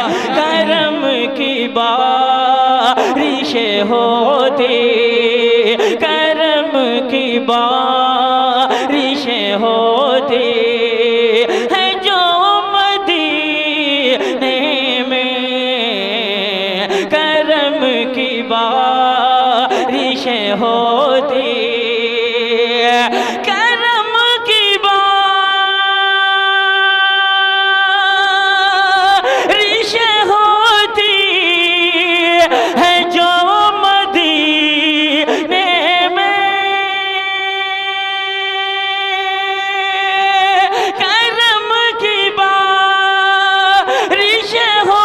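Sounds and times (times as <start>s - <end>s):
man singing unaccompanied: 0.0s - 45.0s.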